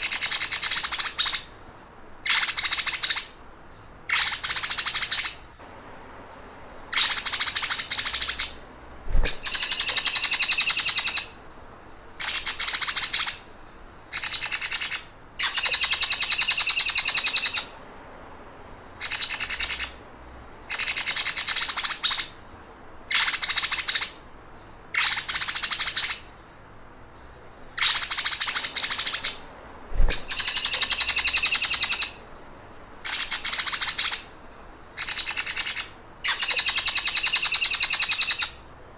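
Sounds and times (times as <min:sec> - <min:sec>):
songbird buzzy trills: 0:00.0 - 0:38.9.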